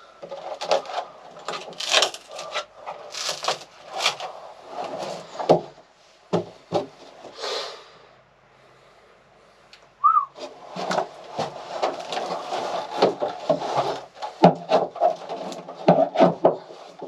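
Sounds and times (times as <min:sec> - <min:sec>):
wooden boards scraping and knocking: 0:00.0 - 0:07.4, 0:10.2 - 0:17.0.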